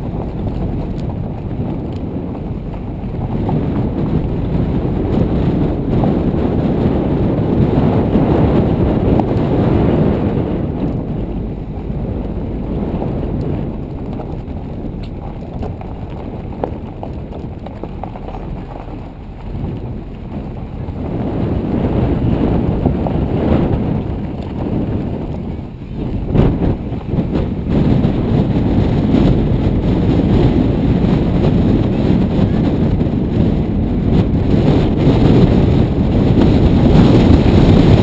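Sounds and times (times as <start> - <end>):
car driving on gravel: 0.0 - 38.0
wind buffeting microphone: 0.0 - 38.0.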